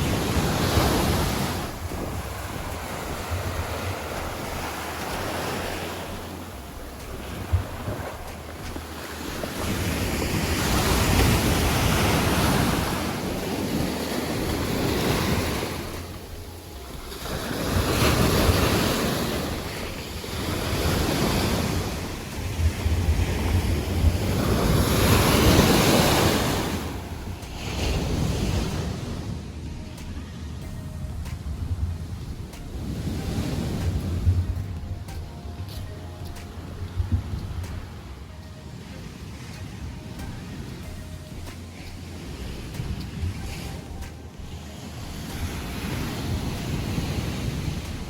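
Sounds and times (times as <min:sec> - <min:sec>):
sea waves breaking on beach: 0:00.0 - 0:48.0
wind buffeting microphone: 0:00.0 - 0:48.0.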